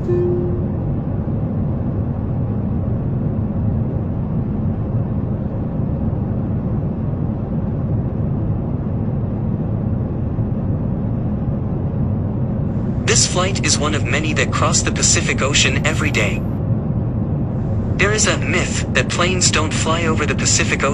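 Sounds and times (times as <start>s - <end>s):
jet airliner cabin drone: 0.0s - 20.9s.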